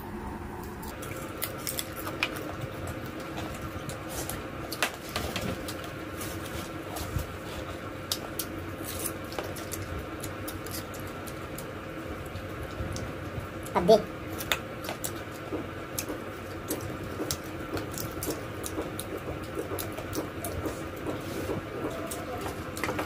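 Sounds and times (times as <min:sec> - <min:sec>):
faint steady hum: 0:00.0 - 0:23.0
mouth chewing and smacking: 0:00.8 - 0:23.0
crunches of fried chicken: 0:00.9 - 0:23.0.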